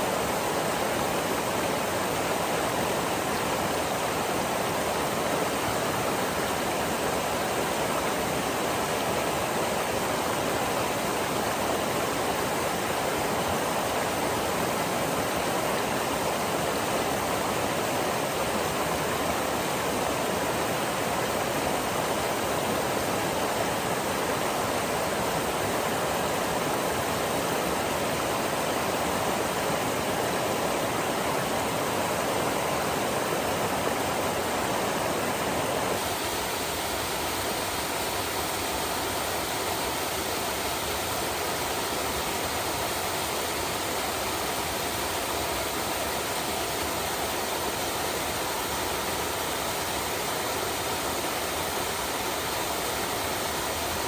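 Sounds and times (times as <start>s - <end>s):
small stream flowing: 0.0s - 54.0s.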